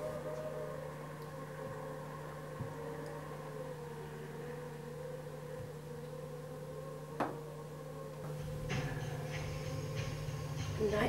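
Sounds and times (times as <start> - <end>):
wavering high drone: 0.0 - 11.0.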